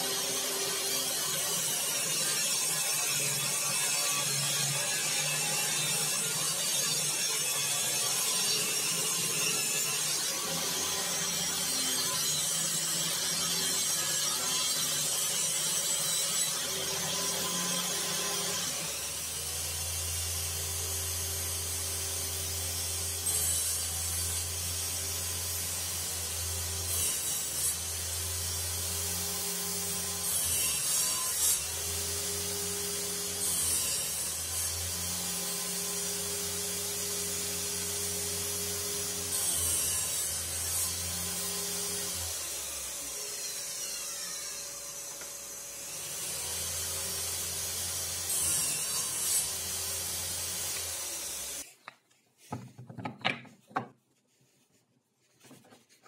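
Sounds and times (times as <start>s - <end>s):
saw blade cutting wood: 0.0s - 53.2s.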